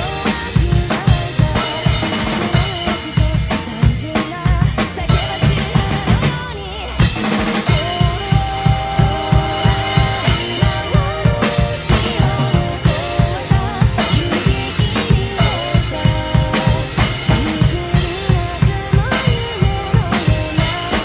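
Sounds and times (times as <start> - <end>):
backing track instrumental line: 0.0 - 21.0
drum kit playing: 0.0 - 21.0
rapid bass drum strokes: 0.0 - 21.0.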